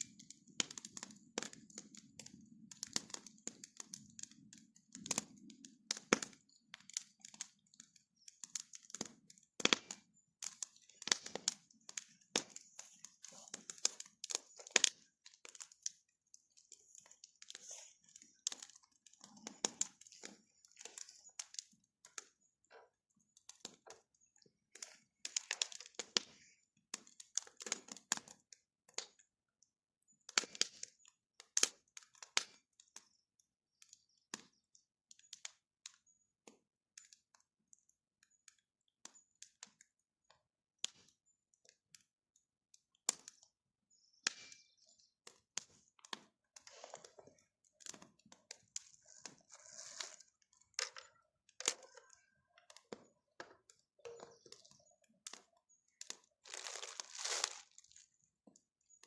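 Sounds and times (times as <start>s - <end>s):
bonfire crackling and popping: 0.0s - 29.4s, 30.0s - 59.0s.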